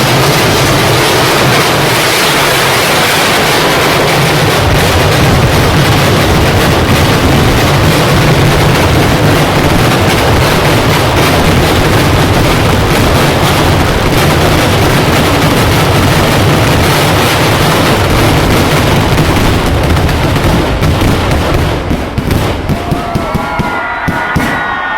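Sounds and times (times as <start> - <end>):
fireworks banging: 0.0 - 24.9.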